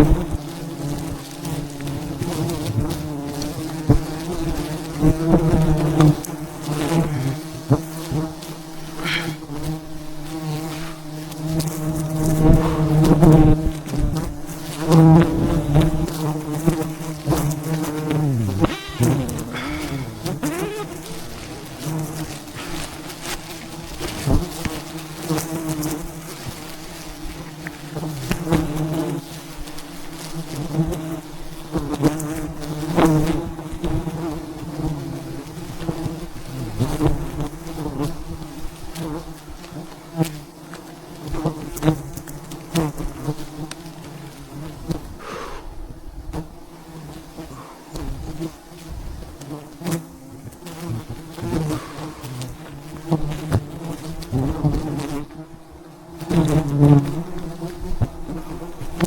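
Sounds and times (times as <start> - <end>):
bee flying past: 0.0 - 59.0
bees buzzing: 0.0 - 59.0.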